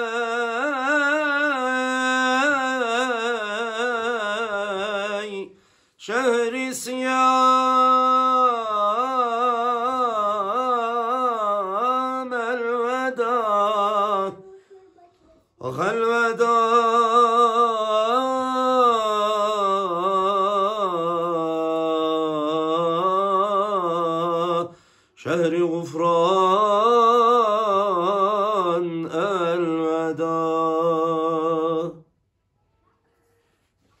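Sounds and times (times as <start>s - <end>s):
man singing unaccompanied: 0.0s - 14.5s, 15.6s - 32.1s.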